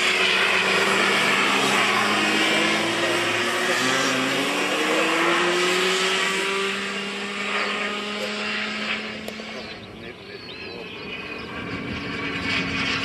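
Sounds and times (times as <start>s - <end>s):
model jet engine whine: 0.0s - 13.0s.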